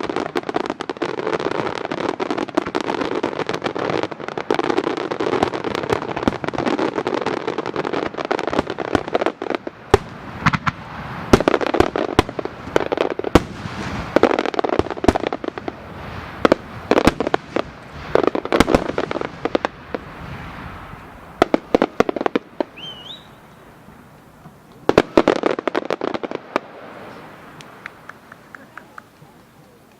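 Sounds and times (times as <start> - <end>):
firework bursts: 0.0 - 29.9
fireworks crackling rush: 0.0 - 29.9.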